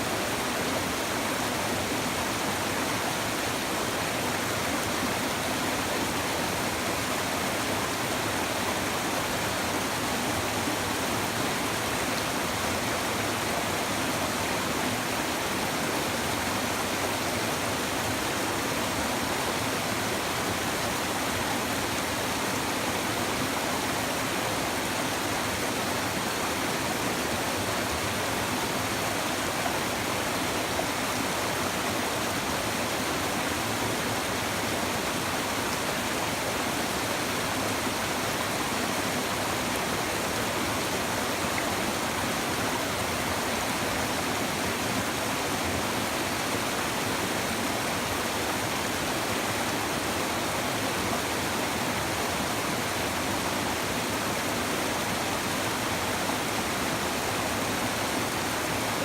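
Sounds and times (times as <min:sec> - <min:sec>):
river babbling over stones: 0:00.0 - 0:59.0.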